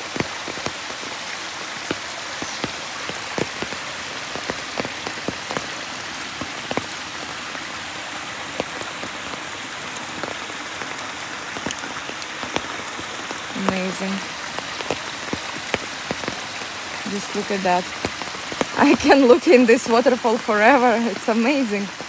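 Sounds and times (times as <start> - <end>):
raindrops tapping: 0.0 - 22.0
steady rain hiss: 0.0 - 22.0.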